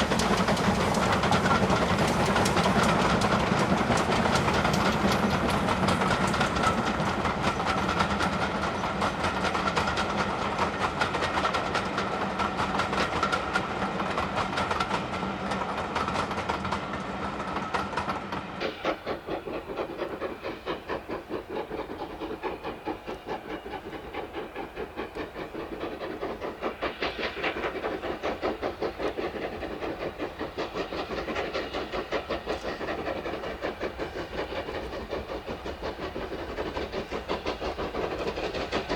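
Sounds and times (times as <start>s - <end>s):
hissing steam: 0.0s - 38.9s
steam locomotive exhaust beats: 0.0s - 38.9s.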